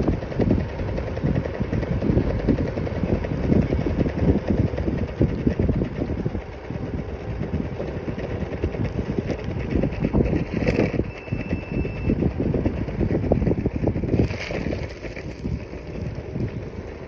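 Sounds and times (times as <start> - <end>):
scooter wheels rumbling on asphalt: 0.0 - 17.0
wind buffeting microphone: 0.0 - 17.0.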